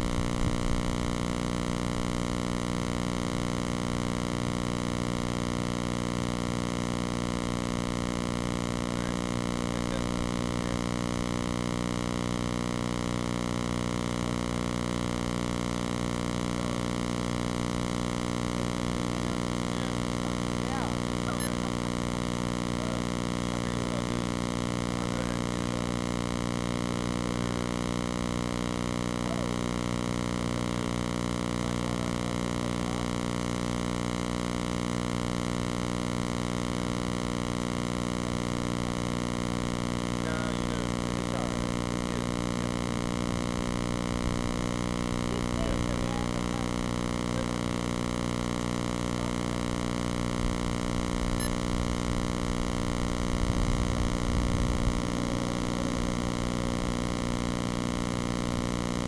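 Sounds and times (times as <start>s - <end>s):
steady layered hum: 0.0s - 59.0s.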